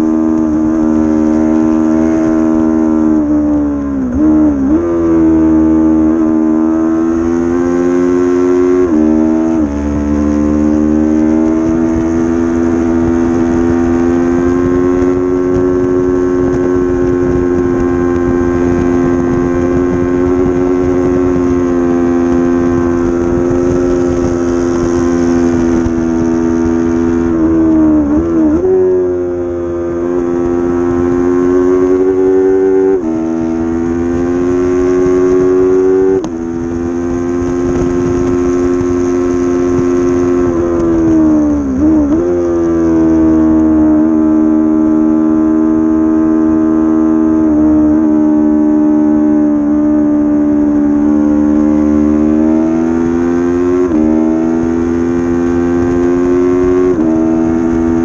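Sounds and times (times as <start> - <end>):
racing motorcycle engine revving: 0.0 - 58.0
wind rumble on microphone: 0.0 - 58.0.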